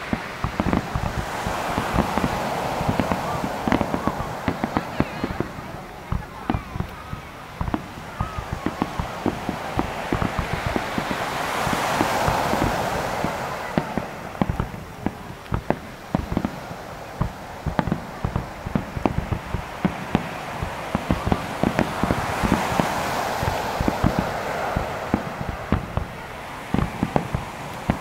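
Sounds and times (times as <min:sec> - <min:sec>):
firework shells bursting: 0:00.0 - 0:28.0
fireworks hiss: 0:00.0 - 0:28.0.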